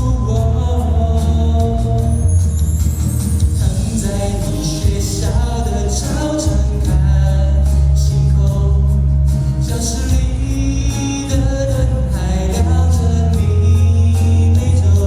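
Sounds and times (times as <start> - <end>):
musical accompaniment: 0.0 - 15.0
person singing pop ballad: 0.0 - 15.0.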